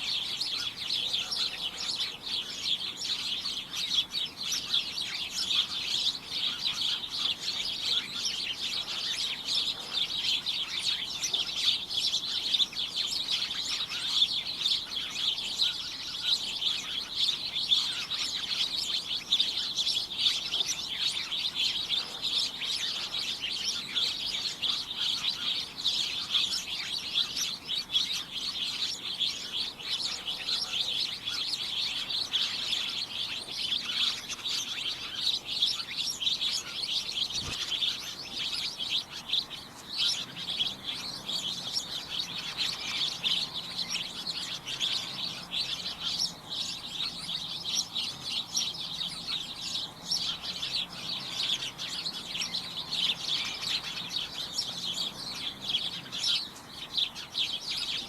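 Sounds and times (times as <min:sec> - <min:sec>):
flock of small birds chirping: 0:00.0 - 0:58.0.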